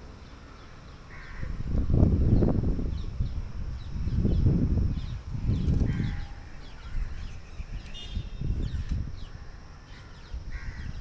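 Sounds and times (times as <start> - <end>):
birds chirping: 0.0 - 11.0
wind buffeting microphone: 1.1 - 11.0.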